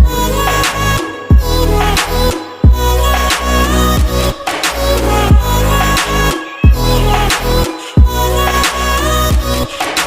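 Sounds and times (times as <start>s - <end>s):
hip hop beat with synth melody: 0.0s - 10.0s.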